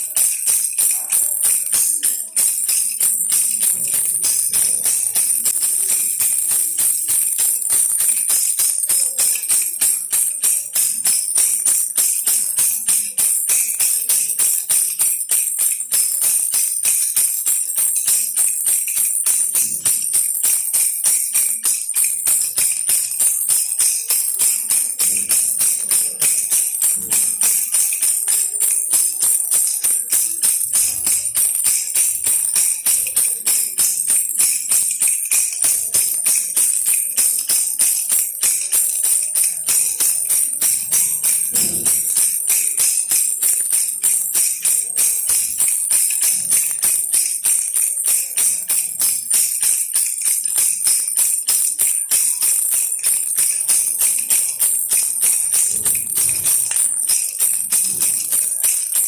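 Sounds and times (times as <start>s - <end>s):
baby rattle jingling: 0.0s - 59.0s.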